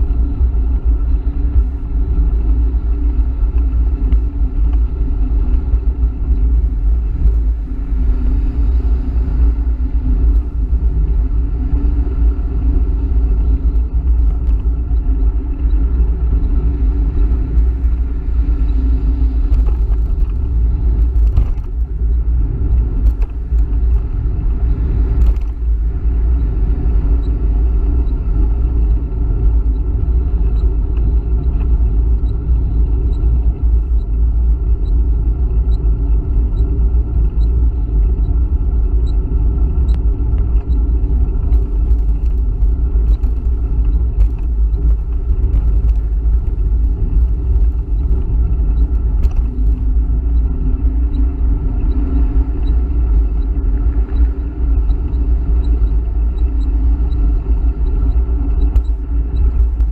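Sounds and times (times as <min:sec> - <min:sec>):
wind and road rumble: 0:00.0 - 0:59.9.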